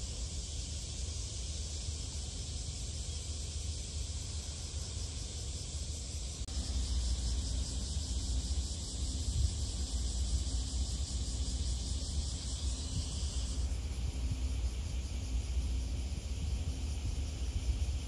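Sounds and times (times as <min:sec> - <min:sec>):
faint steady hum: 0:00.0 - 0:18.0
insect drone: 0:00.0 - 0:18.0.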